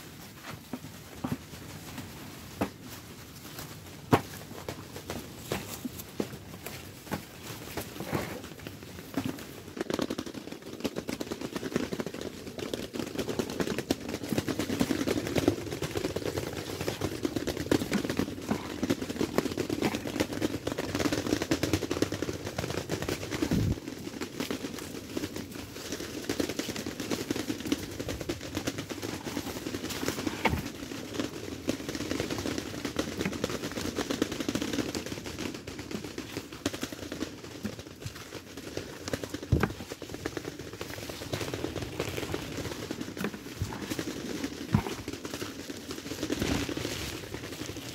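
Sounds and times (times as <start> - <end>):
rustling leaves and vines: 0.0 - 47.9.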